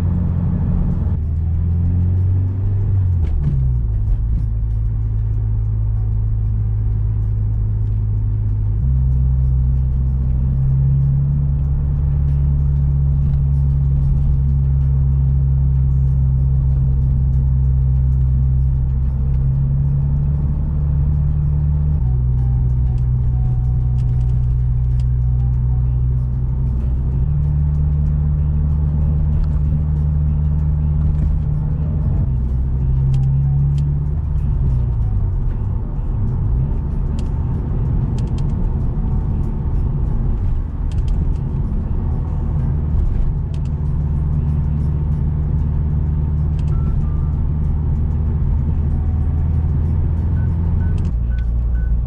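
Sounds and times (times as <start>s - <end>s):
car engine drone in cabin: 0.0s - 52.0s.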